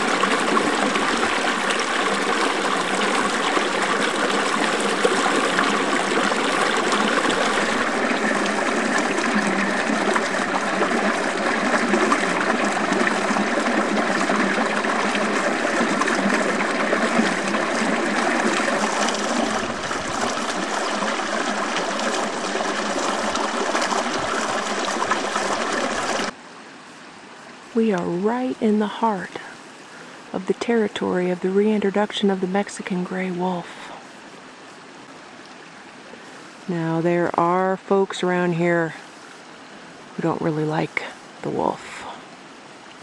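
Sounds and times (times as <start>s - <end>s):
river flowing: 0.0s - 43.0s.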